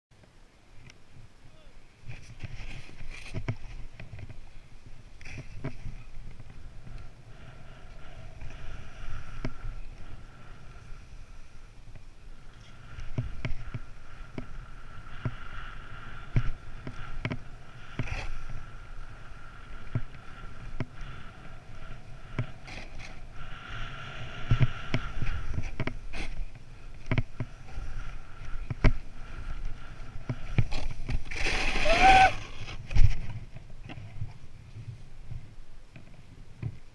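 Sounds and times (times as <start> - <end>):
wind rumble on microphone: 0.5 - 36.9
snowboard scraping on snow: 2.0 - 34.2.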